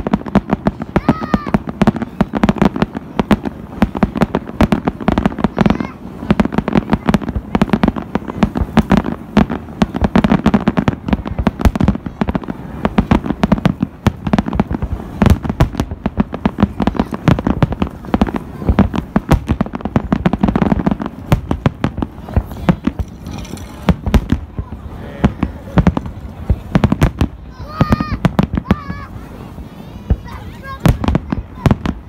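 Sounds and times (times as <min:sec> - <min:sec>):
fireworks bursting with crackles: 0:00.0 - 0:32.0.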